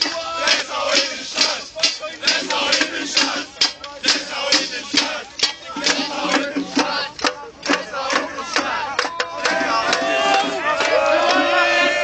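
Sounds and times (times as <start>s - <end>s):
crowd chanting: 0.0s - 12.0s
steady drum beat: 0.0s - 12.0s.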